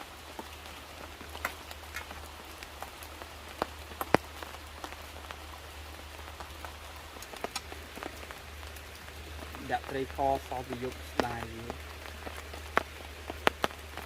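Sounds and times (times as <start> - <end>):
close raindrops hitting: 0.0 - 14.0
steady rain: 0.0 - 14.0.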